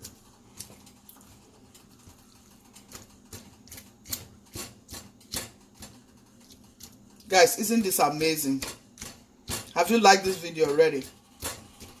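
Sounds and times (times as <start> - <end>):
utensil tapping and scraping in pan: 0.0 - 12.0.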